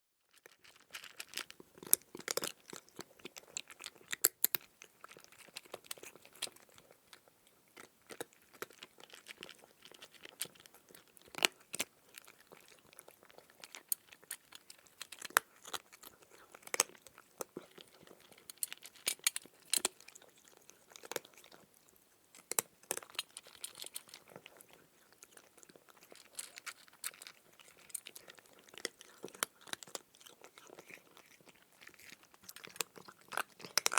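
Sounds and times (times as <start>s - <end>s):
cat crunching dry kibble: 0.3s - 33.9s.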